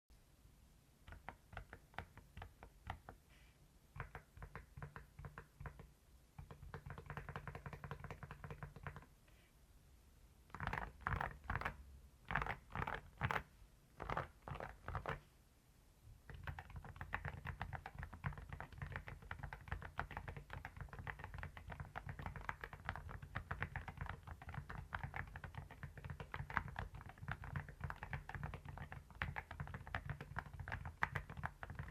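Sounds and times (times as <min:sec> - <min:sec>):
typing on mechanical keyboard: 0:01.1 - 0:03.2, 0:04.0 - 0:09.1, 0:10.5 - 0:13.4, 0:14.0 - 0:15.2, 0:16.3 - 0:31.9.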